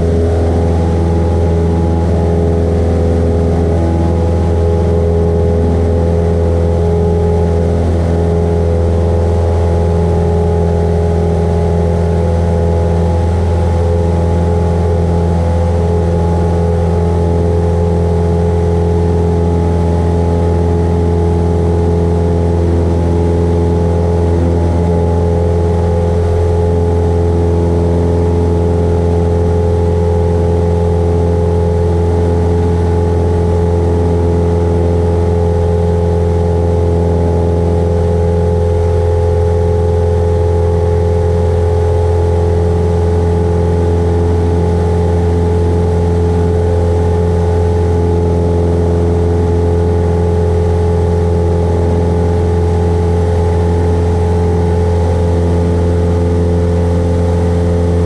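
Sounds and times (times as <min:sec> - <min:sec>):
airplane engine and propeller: 0:00.0 - 0:58.0.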